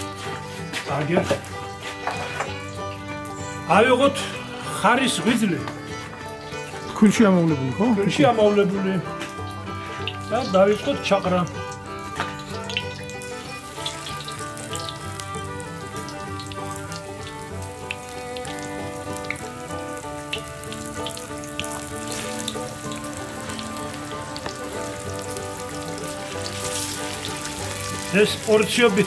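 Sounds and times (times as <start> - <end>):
food sizzling in a pan: 0.0 - 4.6, 9.1 - 29.0
background music with held notes: 0.0 - 29.0.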